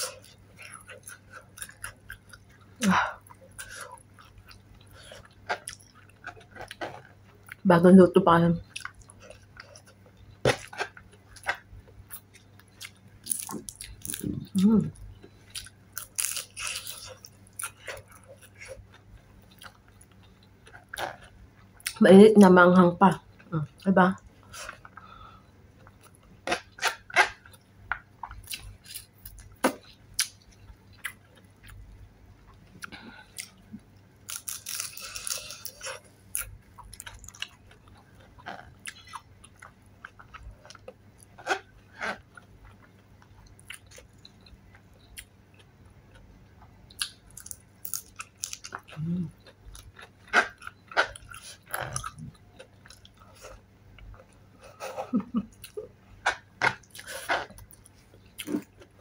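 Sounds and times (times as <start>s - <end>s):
crunching and chewing food: 0.0s - 7.7s, 8.6s - 22.0s, 23.2s - 59.0s.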